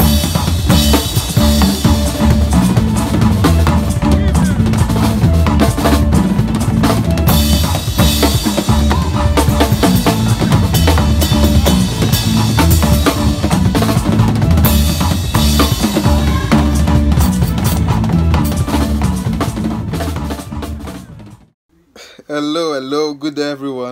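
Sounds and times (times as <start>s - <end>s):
drum solo: 0.0s - 21.6s.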